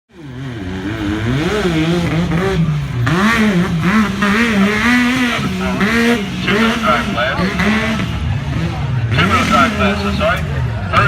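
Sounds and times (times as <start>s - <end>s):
utility vehicle engine revving: 0.1s - 11.0s.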